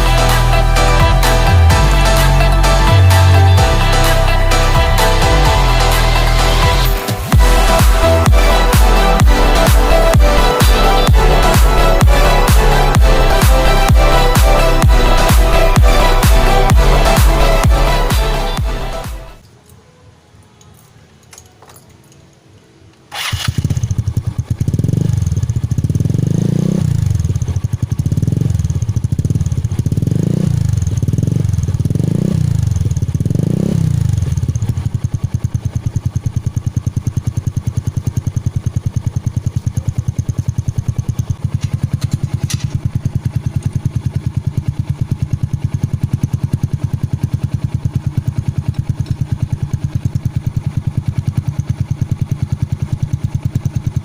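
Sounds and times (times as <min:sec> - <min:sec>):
scooter engine revving and idling: 0:00.0 - 0:19.4, 0:23.1 - 0:54.0.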